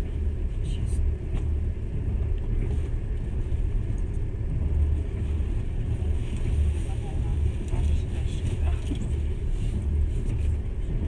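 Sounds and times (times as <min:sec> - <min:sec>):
train rumbling from inside carriage: 0:00.0 - 0:11.0
train wheels on rails: 0:00.0 - 0:11.0.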